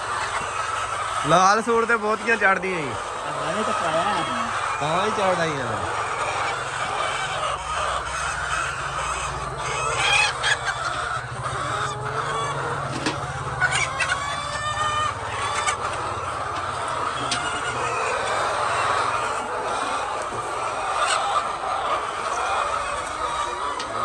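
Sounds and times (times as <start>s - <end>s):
chickens clucking and squawking: 0.0s - 24.0s.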